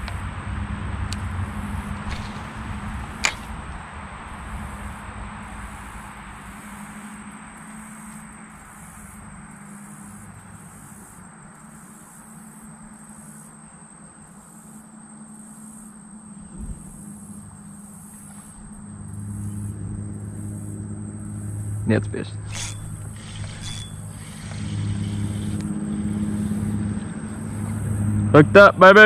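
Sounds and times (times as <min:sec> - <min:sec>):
low hum: 0:00.0 - 0:13.8, 0:14.4 - 0:29.0
wind and water hiss: 0:00.0 - 0:27.9
insects chirping: 0:00.0 - 0:29.0.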